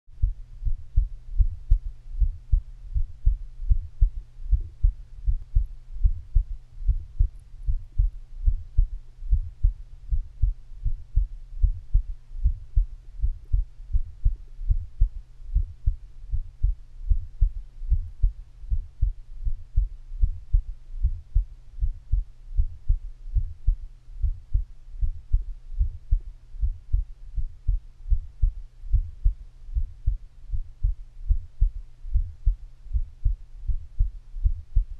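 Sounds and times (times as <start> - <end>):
heartbeat thumps: 0.1 - 34.9
low hum: 0.1 - 34.9.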